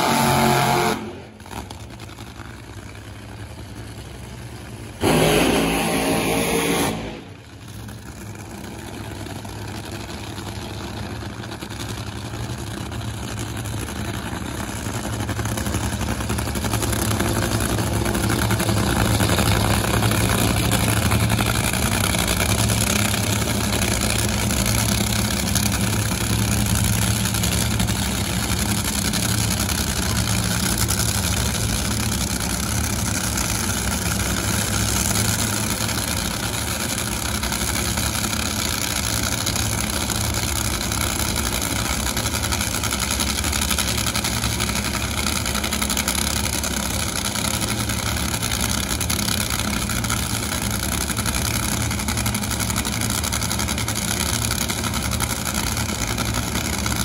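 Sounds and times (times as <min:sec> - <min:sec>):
racing car engine idling: 0:00.0 - 0:57.0.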